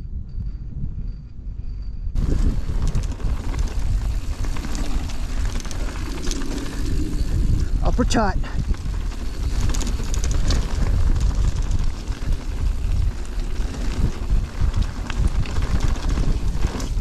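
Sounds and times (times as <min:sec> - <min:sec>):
wind buffeting microphone: 0:00.0 - 0:17.0
tyres rumbling on dirt trail: 0:02.1 - 0:17.0
bike clattering: 0:02.2 - 0:17.0.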